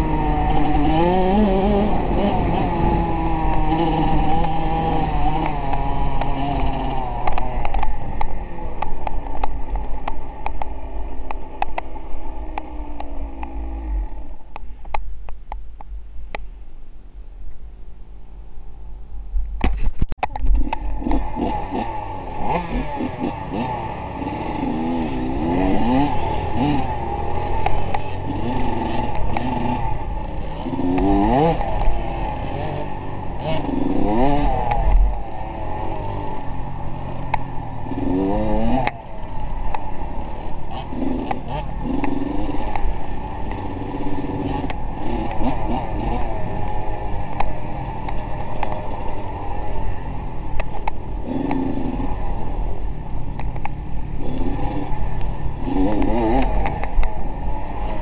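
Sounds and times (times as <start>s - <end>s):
engine revving: 0.0s - 9.2s, 20.5s - 58.0s.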